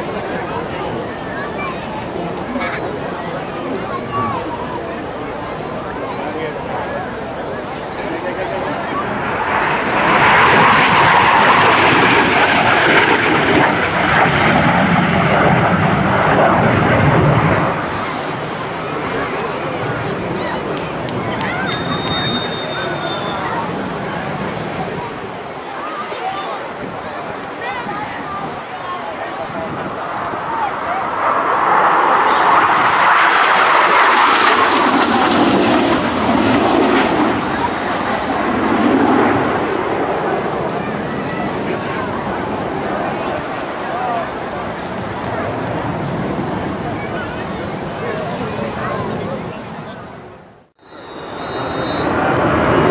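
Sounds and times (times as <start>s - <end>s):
jet flying past: 0.0s - 52.9s.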